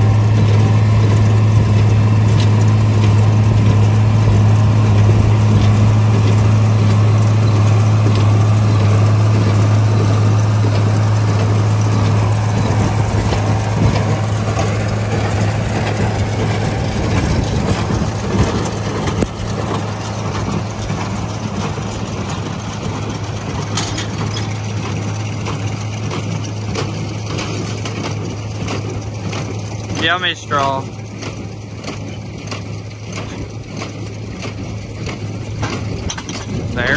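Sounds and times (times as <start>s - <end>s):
baler mechanical rattle: 0.0s - 36.9s
tractor engine running: 0.0s - 36.9s.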